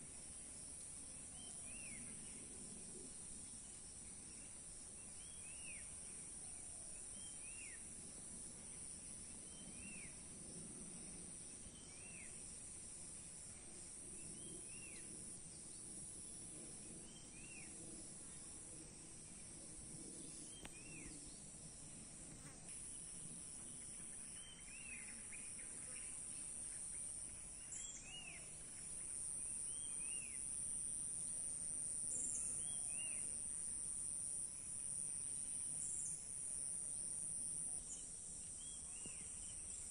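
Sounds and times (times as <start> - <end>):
crickets droning: 0.0 - 39.9
insect chirp: 0.0 - 39.9.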